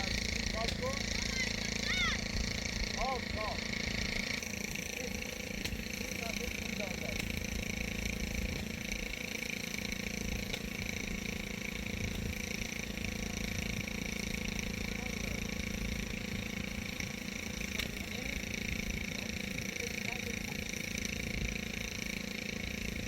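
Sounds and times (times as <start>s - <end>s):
engine humming: 0.0s - 23.0s.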